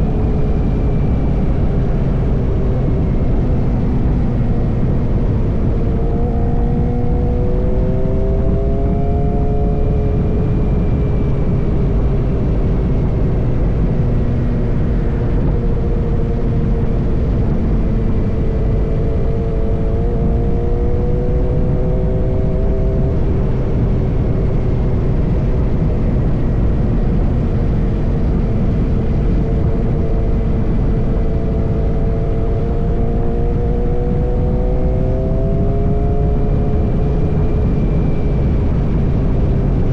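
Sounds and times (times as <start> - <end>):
loud steady rushing noise: 0.0 - 39.9
motorcycle engine running: 0.0 - 39.9.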